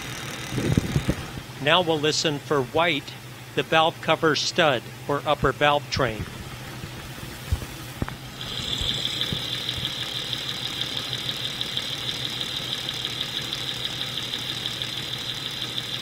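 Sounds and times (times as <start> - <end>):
engine idling with ticking clatter: 0.0 - 16.0.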